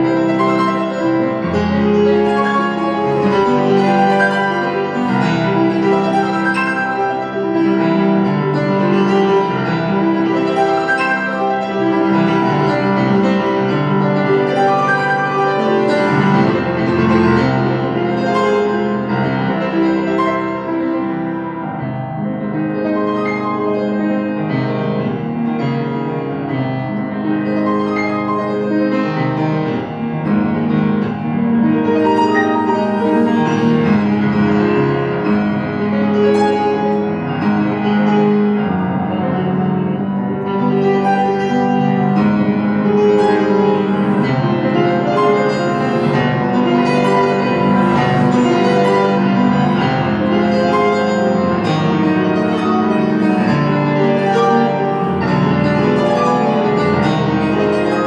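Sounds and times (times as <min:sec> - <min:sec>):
grand piano playing: 0:00.0 - 0:58.0.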